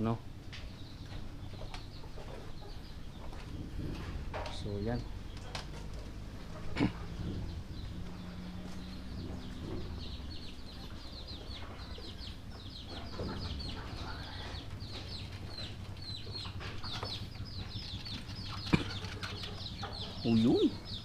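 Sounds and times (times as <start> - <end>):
chicks peeping: 0.0 - 21.0
steady low hum: 0.0 - 21.0.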